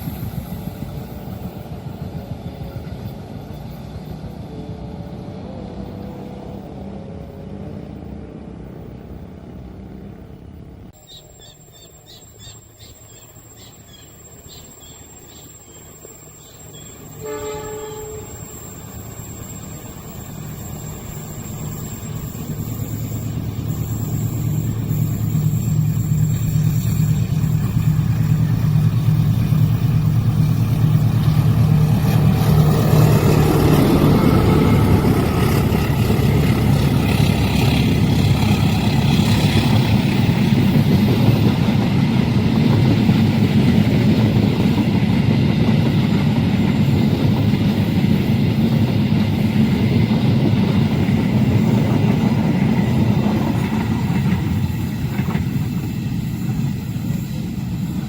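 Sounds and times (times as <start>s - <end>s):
locomotive engine drone: 0.0s - 58.0s
train wheels rumbling on rails: 0.0s - 58.0s.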